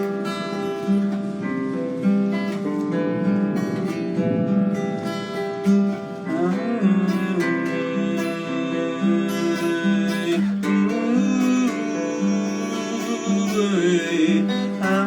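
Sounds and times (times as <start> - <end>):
guitar strummed chords: 0.0 - 15.0.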